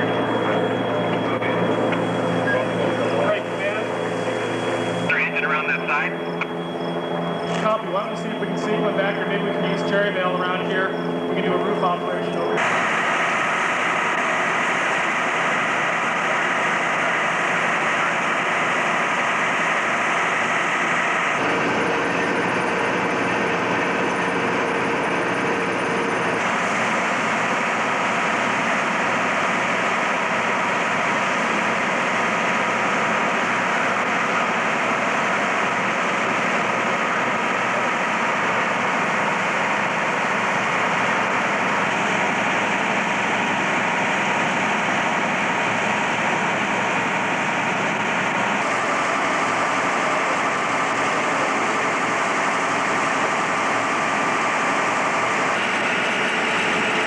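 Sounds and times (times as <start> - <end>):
heavy vehicle engine droning: 0.0 - 57.0.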